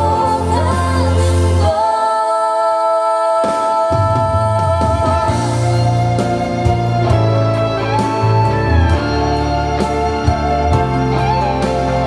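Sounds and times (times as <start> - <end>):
slow ballad over loudspeakers: 0.0 - 12.0.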